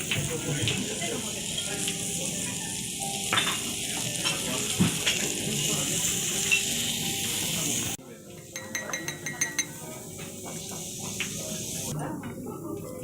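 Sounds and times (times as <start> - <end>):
meat and vegetables sizzling on grill: 0.0 - 13.0.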